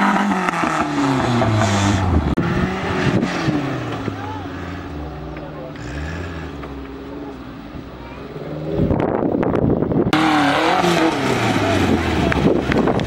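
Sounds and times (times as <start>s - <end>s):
off-road engines revving: 0.0s - 13.0s.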